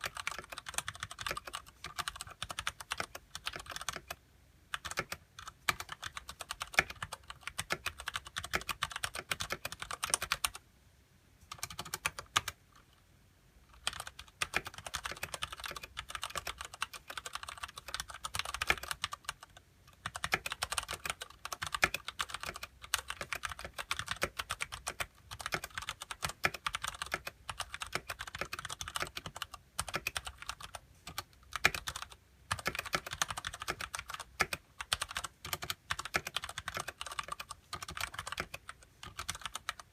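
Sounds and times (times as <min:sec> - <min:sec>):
mechanical keyboard typing: 0:00.0 - 0:10.6, 0:11.5 - 0:12.9, 0:13.7 - 0:39.9.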